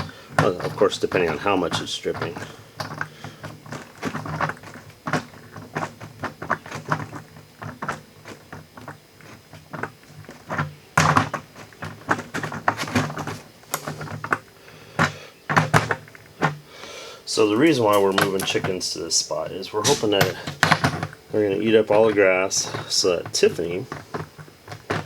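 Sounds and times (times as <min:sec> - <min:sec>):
plastic bucket knocks and clatter: 0:00.0 - 0:16.7, 0:17.5 - 0:18.9, 0:19.8 - 0:25.0.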